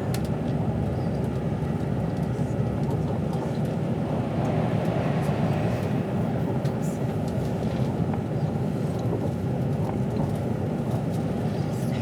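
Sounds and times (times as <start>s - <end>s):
train rumble from inside carriage: 0.0s - 12.0s.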